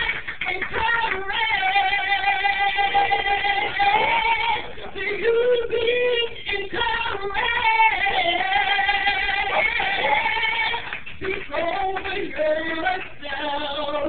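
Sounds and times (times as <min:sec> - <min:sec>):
woman singing into microphone: 0:00.0 - 0:14.0.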